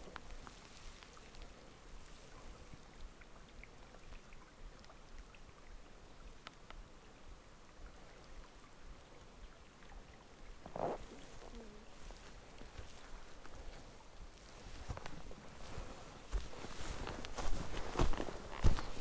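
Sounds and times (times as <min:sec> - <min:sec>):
river water flowing: 0:00.0 - 0:19.0
small ticks and drips: 0:00.0 - 0:19.0.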